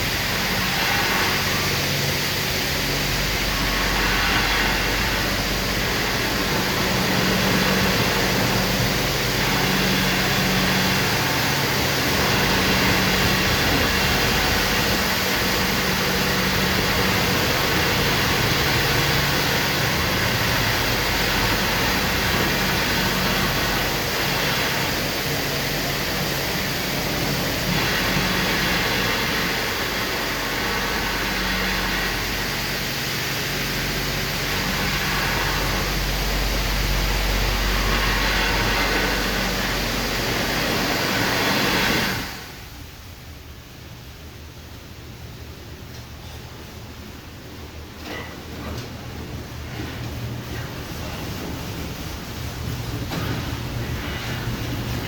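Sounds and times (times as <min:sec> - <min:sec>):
low motor hum: 0:00.0 - 0:45.6
car wash rushing: 0:00.0 - 0:55.0.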